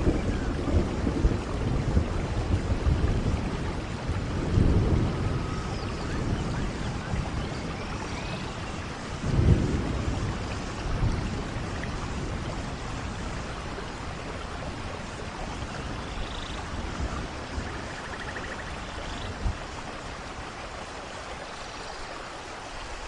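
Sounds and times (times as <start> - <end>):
low rolls of thunder: 0.0 - 21.0
rain falling in forest: 0.0 - 23.0.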